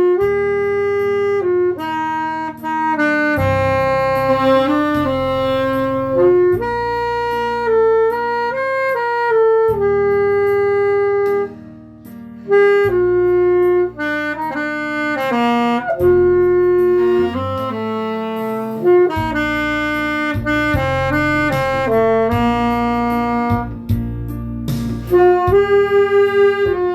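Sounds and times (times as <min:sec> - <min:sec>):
backing track with bass line: 0:00.0 - 0:26.9
saxophone playing slow melody: 0:00.0 - 0:26.9.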